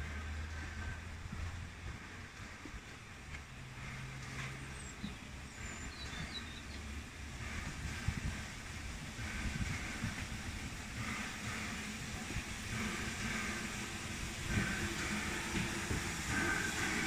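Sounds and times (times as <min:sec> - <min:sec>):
steam locomotive rumbling: 0:00.0 - 0:17.0
wind on microphone: 0:00.0 - 0:17.0.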